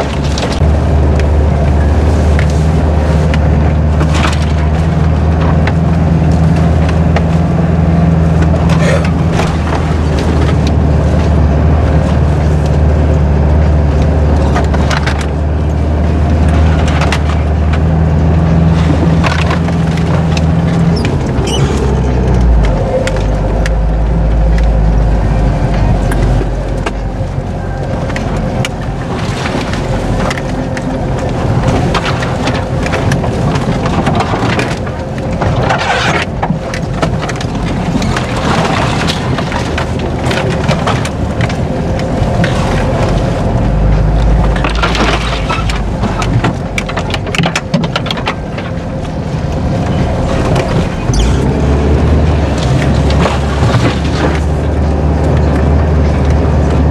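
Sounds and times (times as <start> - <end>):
branches scraping vehicle body: 0.0 - 24.8, 25.7 - 56.9
vehicle engine under load: 0.0 - 56.9.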